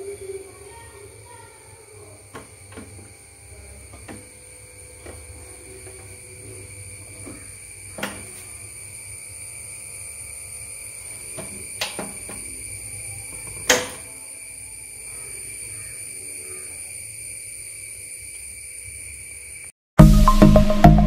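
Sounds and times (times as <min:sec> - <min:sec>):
faint high whine: 0:00.0 - 0:19.8.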